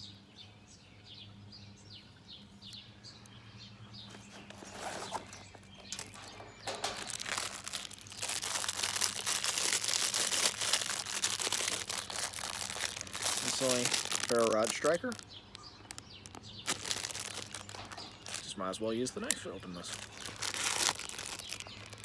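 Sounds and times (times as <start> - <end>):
birds chirping faintly: 0.0 - 22.0
plastic packaging crinkling: 4.1 - 22.0.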